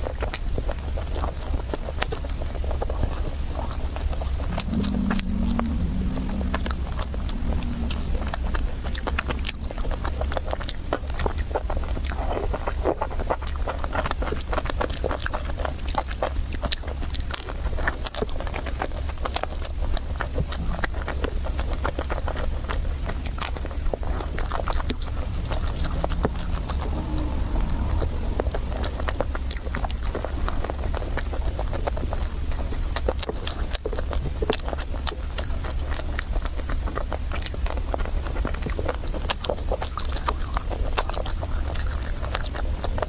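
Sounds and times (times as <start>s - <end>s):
person chewing and smacking: 0.0s - 43.0s
steady low hum: 0.0s - 43.0s.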